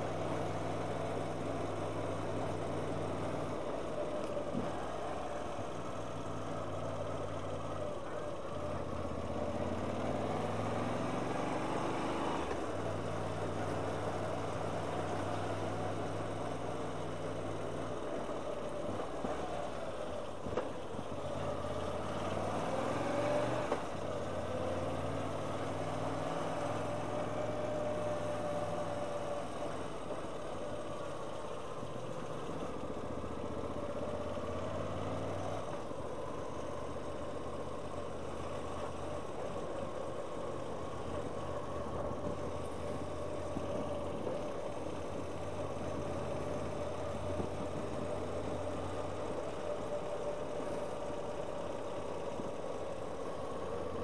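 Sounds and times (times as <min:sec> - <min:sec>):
motorcycle engine running: 0:00.0 - 0:22.8, 0:23.6 - 0:54.0.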